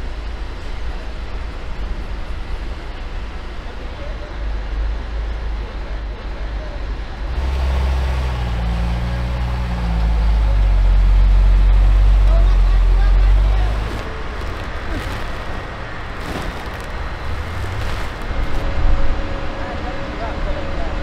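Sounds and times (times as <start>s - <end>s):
heavy vehicle engine droning: 4.1s - 21.0s.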